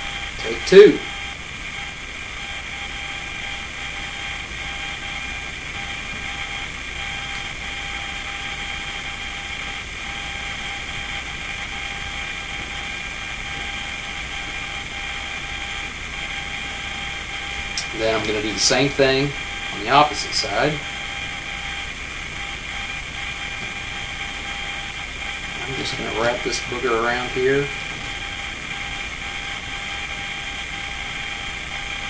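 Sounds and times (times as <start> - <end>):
mechanical hum with high whine: 0.0 - 32.0.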